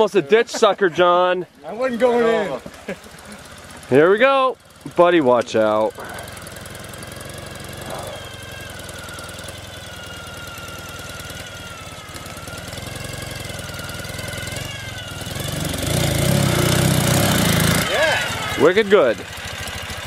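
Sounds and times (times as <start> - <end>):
motorcycle engine running: 1.5 - 20.0.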